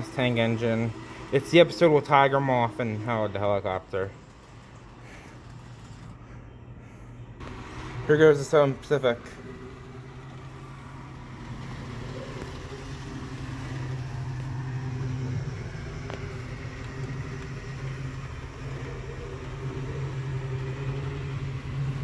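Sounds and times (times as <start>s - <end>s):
model train wheels rumbling on track: 0.0s - 6.2s, 7.4s - 22.0s
electric motor hum: 0.0s - 22.0s.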